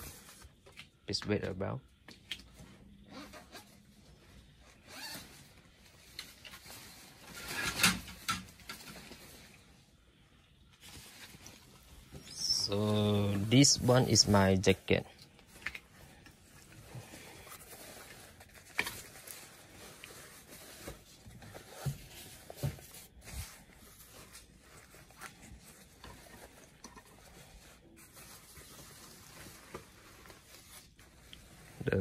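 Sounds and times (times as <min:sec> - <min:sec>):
jacket fabric rustling: 0:01.9 - 0:32.0.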